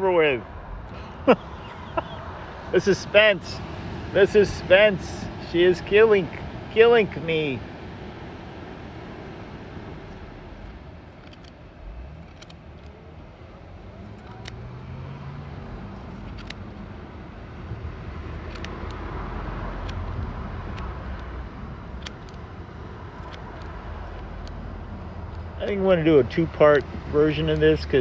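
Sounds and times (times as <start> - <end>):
passing road traffic rumble: 0.0 - 28.0.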